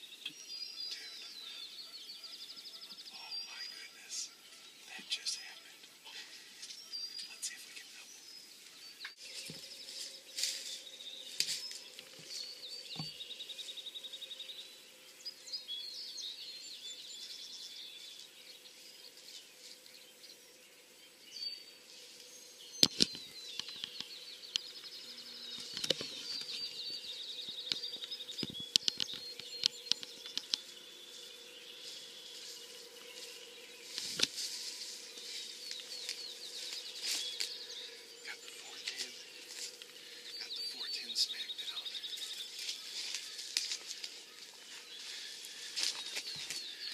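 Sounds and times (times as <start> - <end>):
songbirds trilling and chirping: 0.0 - 46.9.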